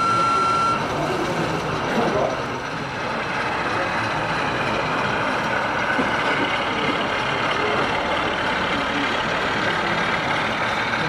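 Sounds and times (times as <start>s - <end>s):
model diesel locomotive engine running: 0.0s - 11.0s.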